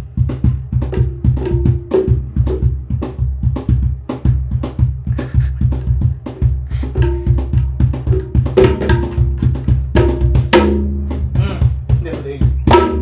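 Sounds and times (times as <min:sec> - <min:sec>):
tabla drumming: 0:00.0 - 0:13.0.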